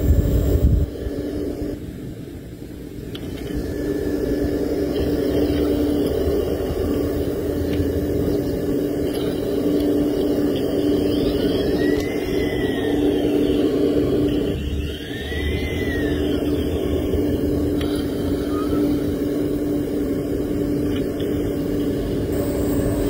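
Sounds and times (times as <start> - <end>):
electric motor whining: 2.9 - 23.0.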